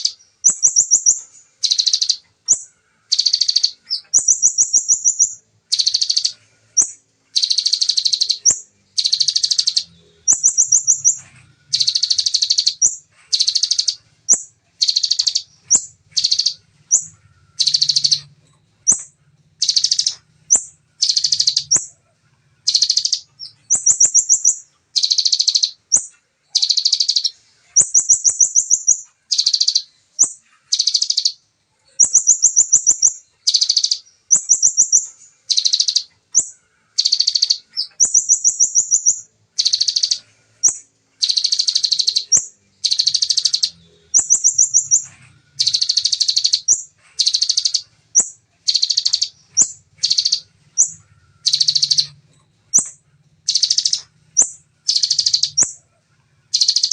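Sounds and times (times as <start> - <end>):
bird singing rapid trills: 0.0 - 56.9.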